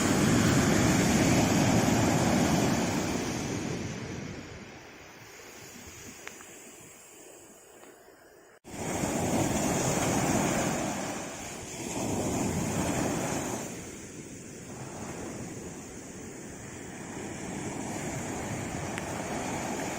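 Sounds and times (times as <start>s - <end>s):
sea waves washing on shore: 0.0s - 19.9s.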